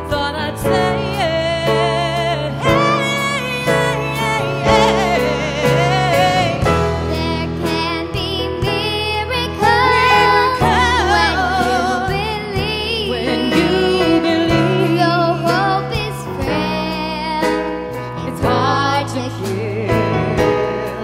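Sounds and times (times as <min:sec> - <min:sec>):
live band playing: 0:00.0 - 0:21.0
woman and girl singing: 0:00.1 - 0:17.6, 0:18.2 - 0:20.4.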